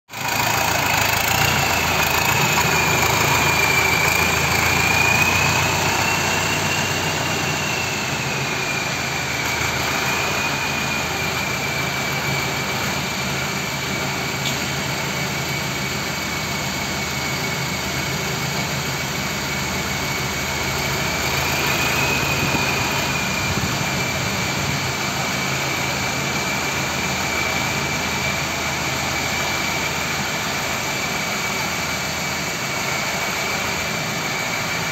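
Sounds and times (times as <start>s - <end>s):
high whine: 0.1s - 34.9s
tractor diesel engine running: 0.1s - 34.9s.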